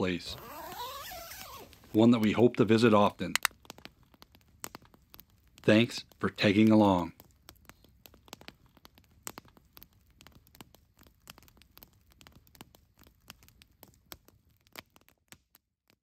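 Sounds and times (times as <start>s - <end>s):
light rain pattering on a tent: 0.0s - 16.0s.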